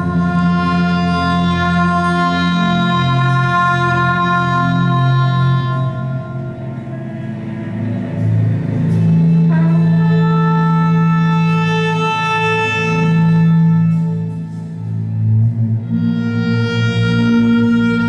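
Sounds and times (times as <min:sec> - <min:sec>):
low held note: 0:00.0 - 0:18.0
trumpet: 0:00.0 - 0:18.0
violins bowing held notes: 0:00.0 - 0:18.0.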